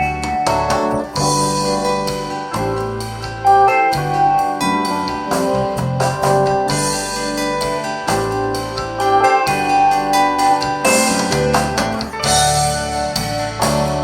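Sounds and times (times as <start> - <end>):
music through loudspeakers: 0.0 - 14.0.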